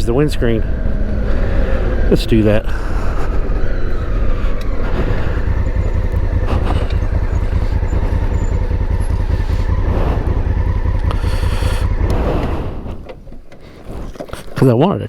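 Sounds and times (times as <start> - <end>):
motorcycle engine running: 0.0 - 13.6
wind rumble on microphone: 0.0 - 14.2.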